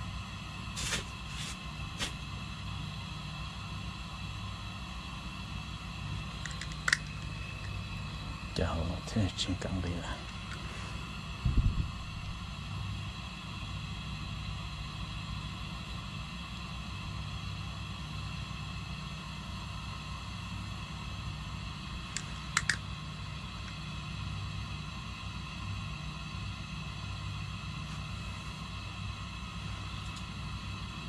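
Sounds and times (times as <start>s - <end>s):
mechanical hum with high whine: 0.0s - 31.0s.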